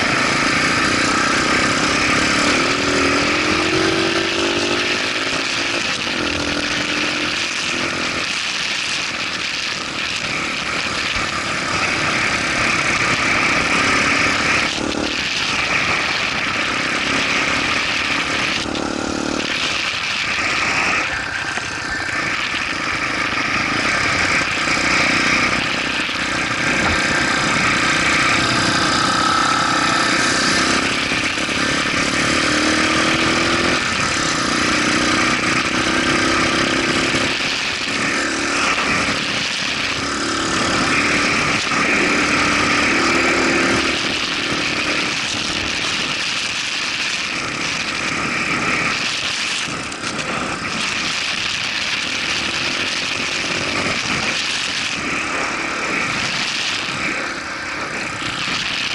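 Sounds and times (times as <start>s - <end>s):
motorcycle engine revving: 0.0s - 58.9s
steady rushing noise: 0.0s - 58.9s.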